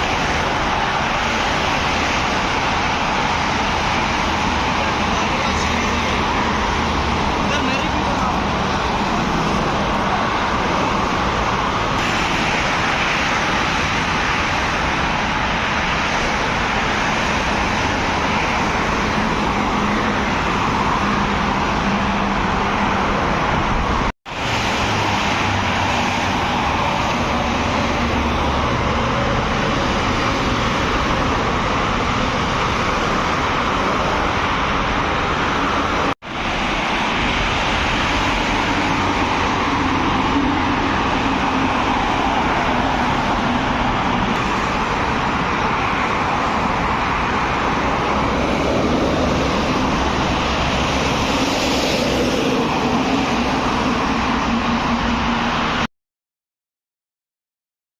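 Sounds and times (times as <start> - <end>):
heavy vehicles driving past: 0.0 - 55.9.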